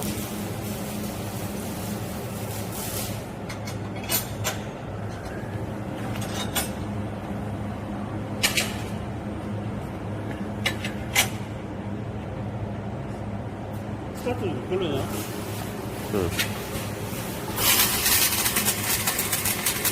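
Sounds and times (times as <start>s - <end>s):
welding machine hum: 0.0s - 12.8s, 13.6s - 19.9s.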